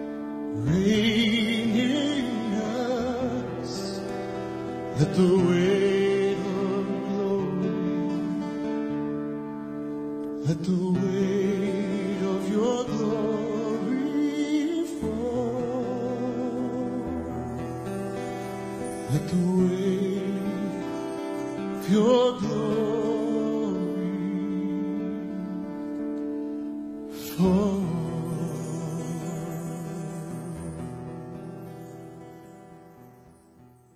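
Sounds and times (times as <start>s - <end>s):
person singing with vibrato: 0.0s - 33.3s.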